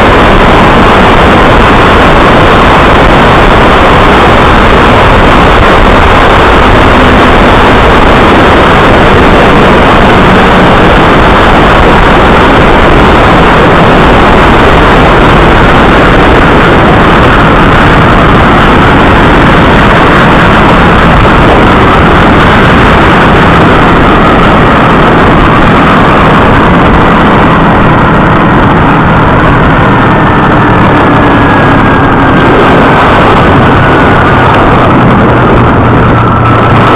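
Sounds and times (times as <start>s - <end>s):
motorcycle engine cruising: 0.0s - 36.9s
wind noise on microphone: 0.0s - 36.9s.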